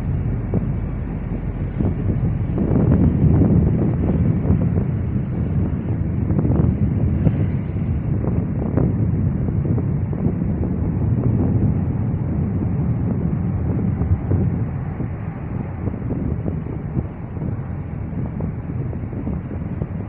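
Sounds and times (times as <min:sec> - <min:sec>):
highway traffic hum: 0:00.0 - 0:20.0
wind buffeting microphone: 0:00.0 - 0:20.0.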